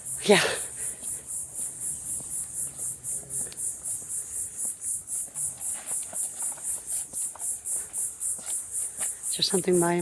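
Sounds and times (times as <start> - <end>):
insects pulsing chorus: 0.0 - 10.0.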